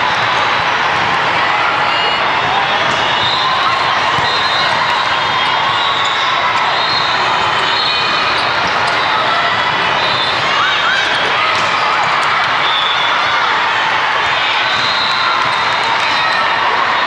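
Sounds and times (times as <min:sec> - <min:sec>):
crowd noise: 0:00.0 - 0:17.0
volleyball hits: 0:02.0 - 0:16.8.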